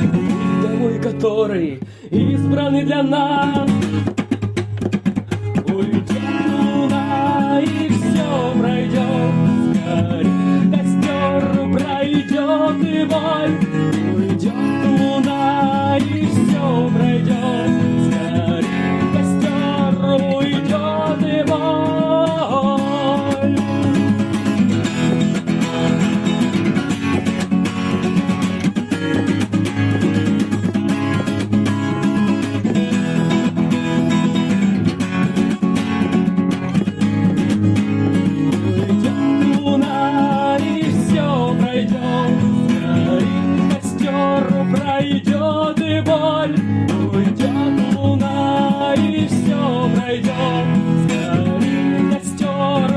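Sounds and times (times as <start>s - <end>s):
strummed acoustic guitar: 0.0s - 52.9s.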